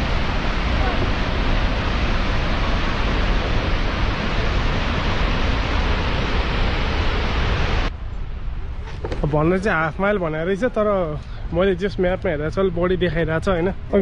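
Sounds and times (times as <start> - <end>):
waterfall roaring: 0.0 - 7.9, 8.7 - 14.0.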